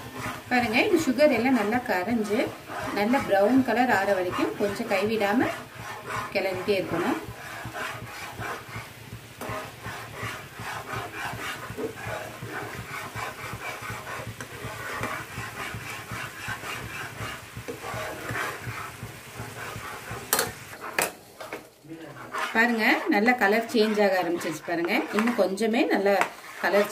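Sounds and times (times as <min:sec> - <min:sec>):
spatula scraping a frying pan: 0:00.0 - 0:26.9
sugar syrup bubbling: 0:00.2 - 0:26.9.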